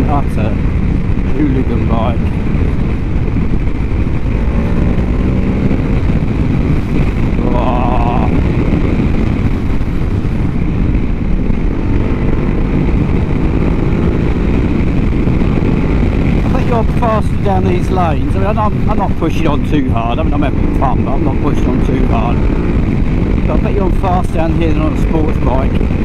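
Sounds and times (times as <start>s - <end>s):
motorcycle engine revving: 0.0s - 26.0s
wind noise on microphone: 0.0s - 26.0s.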